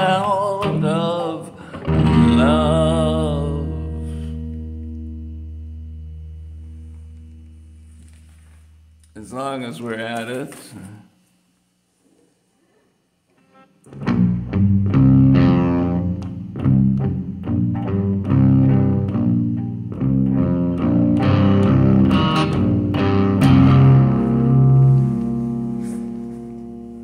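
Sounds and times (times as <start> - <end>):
plucked guitar music: 0.0 - 8.4, 13.4 - 27.0.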